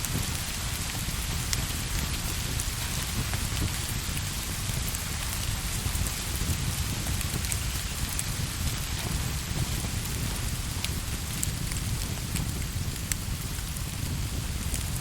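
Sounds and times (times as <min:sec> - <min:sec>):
light ticks of raindrops: 0:00.0 - 0:15.0
steady rain falling: 0:00.0 - 0:15.0.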